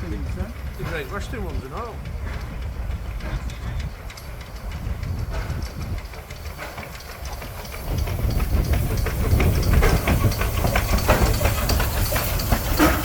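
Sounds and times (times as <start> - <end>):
steam locomotive hissing steam: 0.0 - 13.0
train wheels clicking on rails: 0.0 - 13.0.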